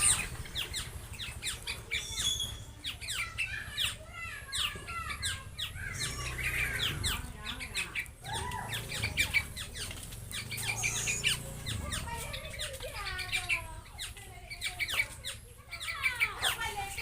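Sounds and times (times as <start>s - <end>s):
birds chirping quickly: 0.0s - 17.0s
falling squawk-like bird calls: 0.0s - 17.0s.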